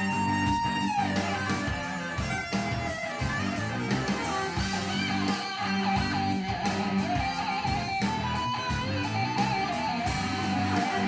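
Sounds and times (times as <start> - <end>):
drums: 0.0 - 11.0
electric guitars: 0.0 - 11.0
wavering lead line: 0.0 - 11.0.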